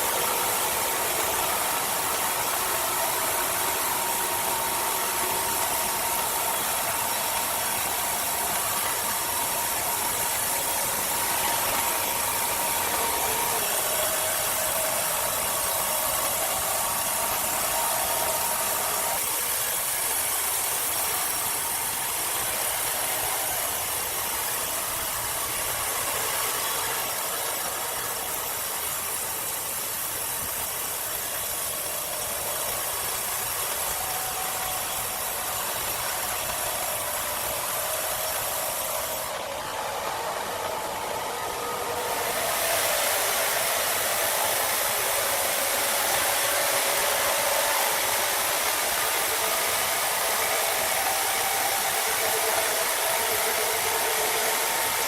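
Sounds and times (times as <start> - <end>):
machine whirring hiss: 0.0 - 55.0.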